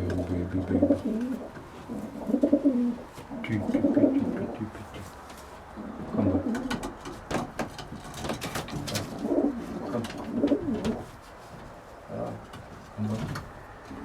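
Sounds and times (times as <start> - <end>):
pigeons cooing: 0.0 - 7.3, 8.2 - 11.2, 13.2 - 14.0.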